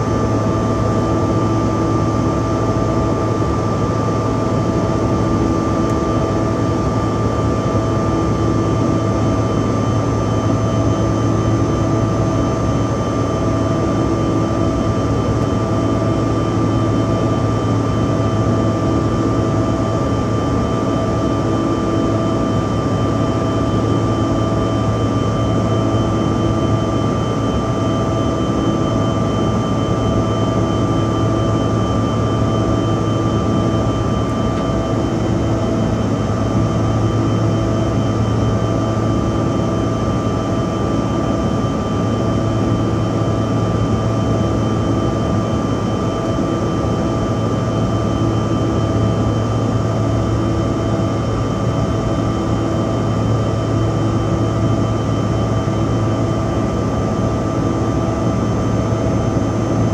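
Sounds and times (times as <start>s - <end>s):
jet engine and airflow drone: 0.0s - 59.9s.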